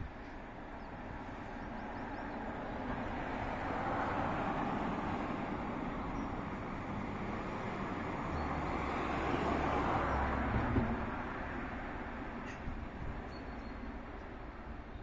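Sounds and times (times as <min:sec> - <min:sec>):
passing cars: 0:00.0 - 0:15.0.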